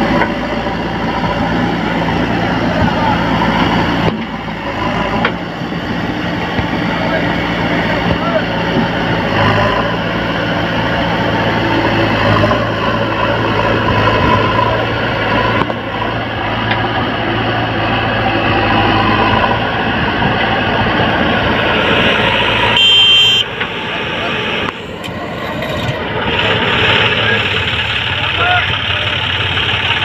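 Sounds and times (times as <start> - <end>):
diesel engines running: 0.0 - 30.0.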